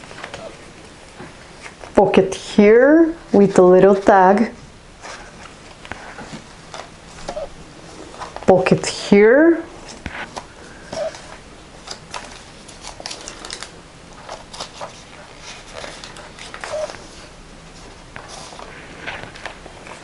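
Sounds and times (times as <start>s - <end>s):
paper pages rustling: 0.0s - 2.0s, 3.4s - 8.8s, 9.8s - 20.0s.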